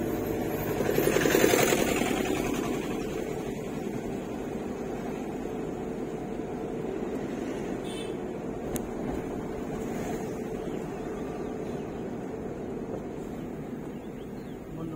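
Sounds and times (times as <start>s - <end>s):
road noise: 0.0s - 14.9s
vehicle engine hum: 0.0s - 14.9s.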